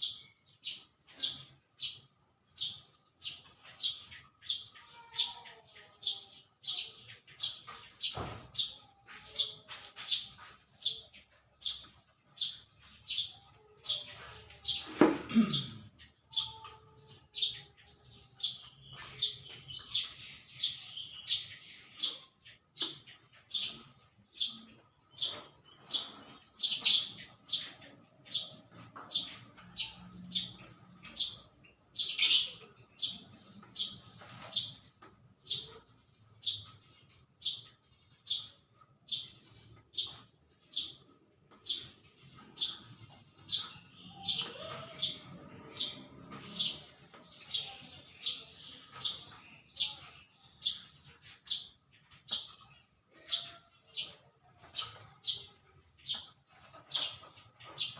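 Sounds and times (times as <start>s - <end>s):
small bird chirping: 0.0s - 57.9s.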